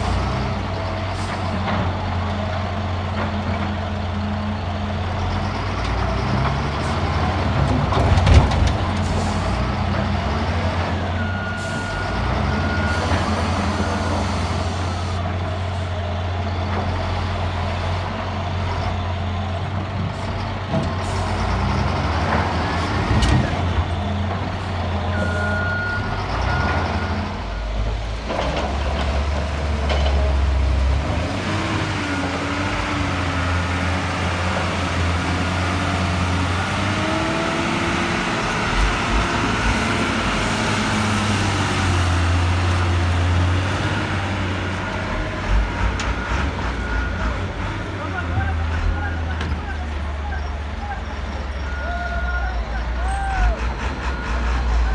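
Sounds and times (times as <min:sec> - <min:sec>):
heavy diesel machinery running: 0:00.0 - 0:54.9.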